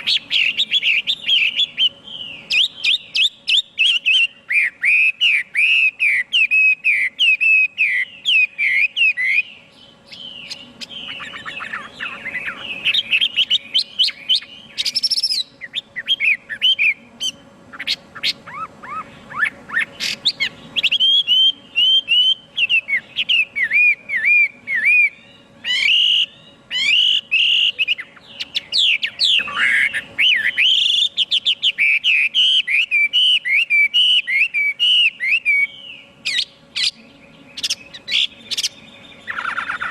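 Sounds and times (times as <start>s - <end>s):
bird whistled song: 0.0s - 39.9s.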